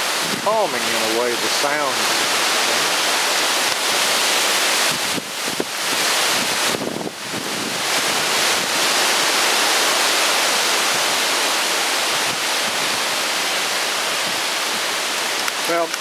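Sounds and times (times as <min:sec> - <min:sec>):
strong wind through trees: 0:00.0 - 0:16.0.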